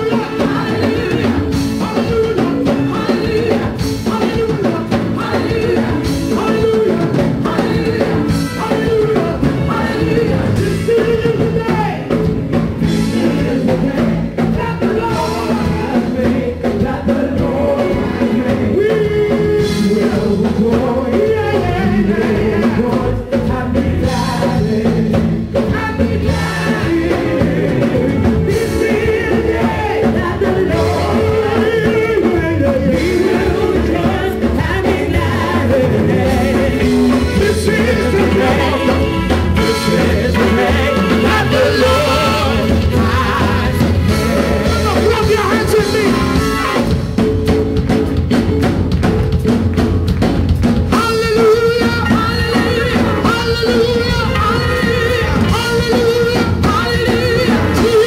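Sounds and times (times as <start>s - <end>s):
backing vocalists: 0.0s - 58.0s
gospel band playing: 0.0s - 58.0s
male lead singer: 0.0s - 58.0s.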